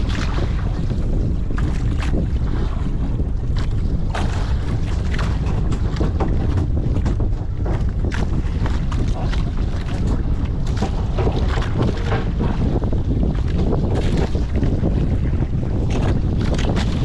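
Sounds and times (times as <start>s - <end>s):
boat engine low rumble: 0.0s - 17.0s
water splashing: 0.0s - 17.0s
wind buffeting microphone: 0.0s - 17.0s.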